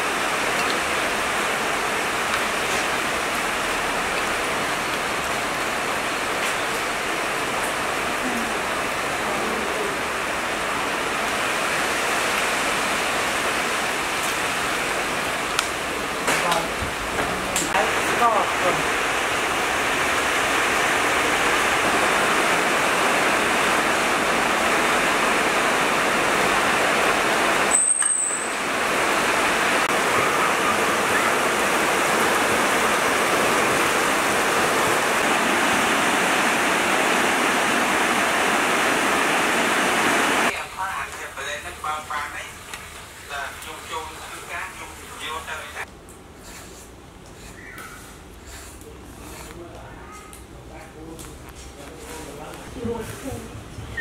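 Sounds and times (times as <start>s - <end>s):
heavy rain on leafy trees: 0.0s - 46.6s.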